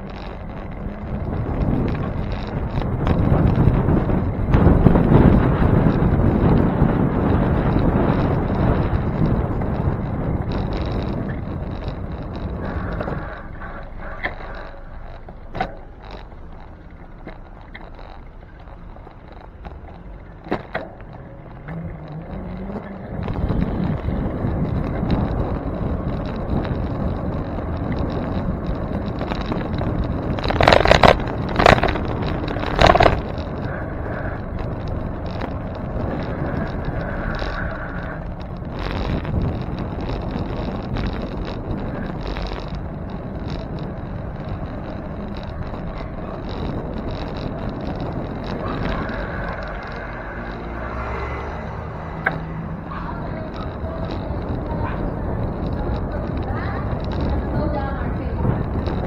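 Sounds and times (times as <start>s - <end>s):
bicycle road noise: 0.0s - 59.0s
wind noise: 0.0s - 59.0s.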